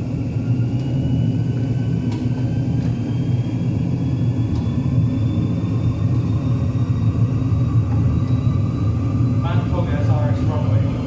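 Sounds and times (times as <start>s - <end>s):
high whine rising in pitch: 0.0s - 11.0s
low jet engine rumble: 0.0s - 11.0s.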